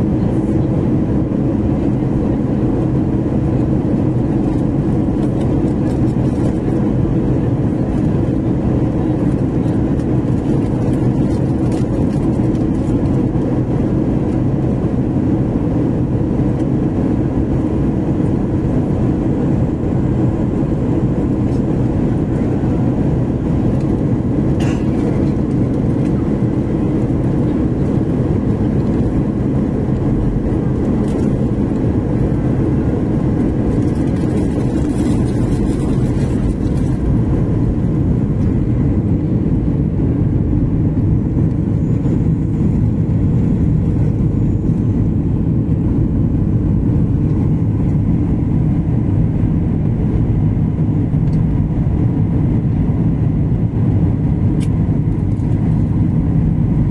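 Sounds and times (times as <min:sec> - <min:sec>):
jet airliner cabin noise: 0:00.0 - 0:56.9.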